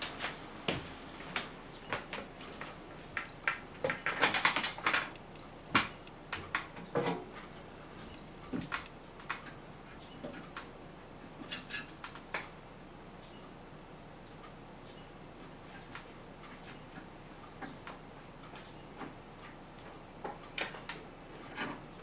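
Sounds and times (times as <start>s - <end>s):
fan parts clicking and clinking: 1.4s - 12.6s, 15.6s - 22.0s.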